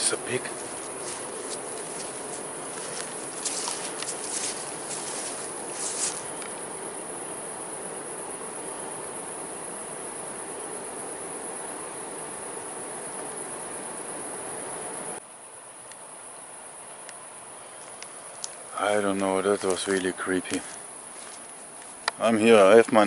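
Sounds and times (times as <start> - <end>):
background hiss: 0.0 - 23.0
crickets chirring: 0.0 - 23.0.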